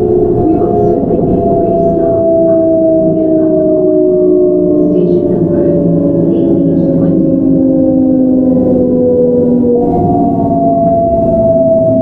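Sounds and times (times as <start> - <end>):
train inverter whining: 0.0 - 12.0.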